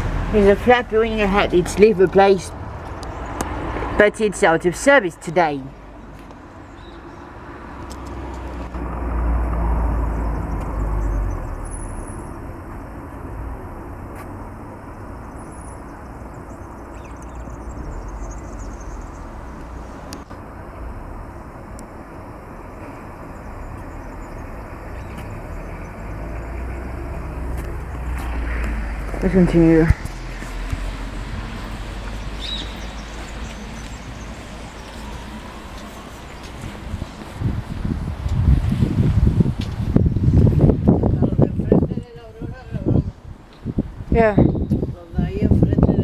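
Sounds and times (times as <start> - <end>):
motor vehicle passing: 0.0 - 44.6
traffic rumble: 0.0 - 46.0.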